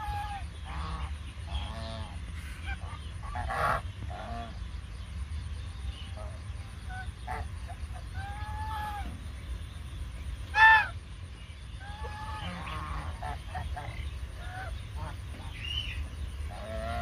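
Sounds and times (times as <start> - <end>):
geese calling: 0.0 - 4.6, 6.1 - 9.4, 10.2 - 11.0, 11.7 - 17.0.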